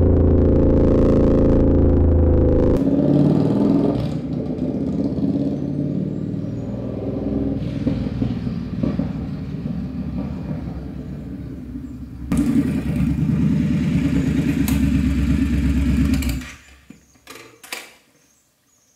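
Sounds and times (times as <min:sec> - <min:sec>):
motorcycle engine running: 0:00.0 - 0:07.0, 0:08.0 - 0:16.7.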